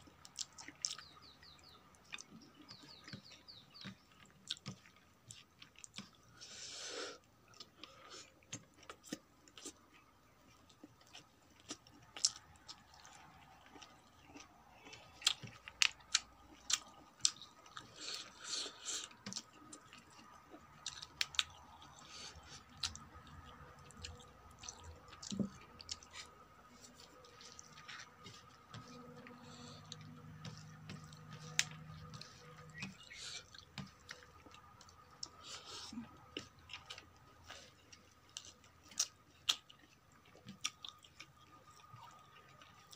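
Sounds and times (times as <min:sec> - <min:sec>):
chewing with sharp crunches: 0:00.0 - 0:42.9.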